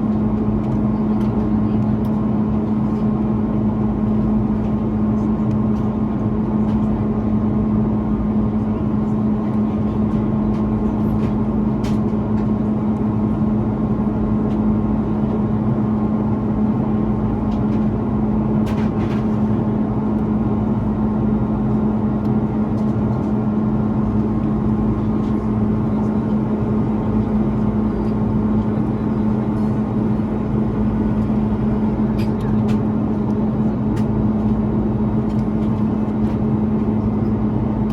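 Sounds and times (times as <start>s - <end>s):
airplane cabin engine roar: 0.0s - 37.9s.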